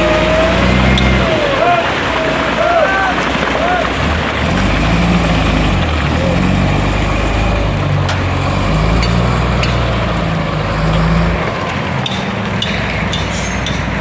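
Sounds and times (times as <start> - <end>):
diesel engine revving: 0.0 - 14.0.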